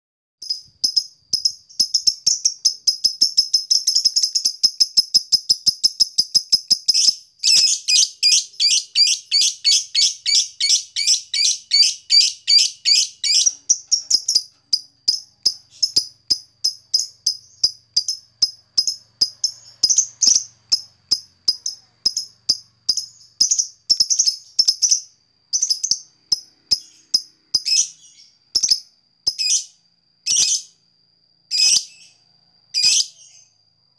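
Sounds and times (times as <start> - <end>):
lovebird chirping rapidly: 0.4 - 30.7, 31.5 - 32.1.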